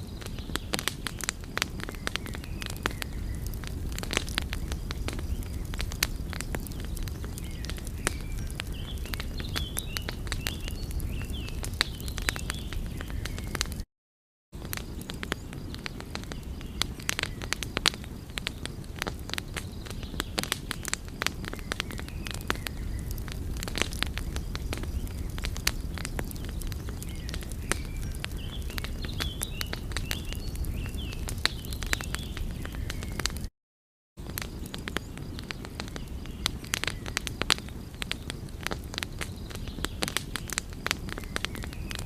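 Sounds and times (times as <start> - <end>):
wood fire crackling and popping: 0.0 - 13.8, 14.6 - 33.5, 34.2 - 42.0.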